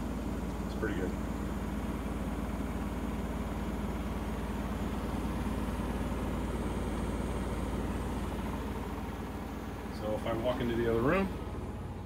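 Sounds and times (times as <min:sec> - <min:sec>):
washer-dryer spinning hum: 0:00.0 - 0:12.0.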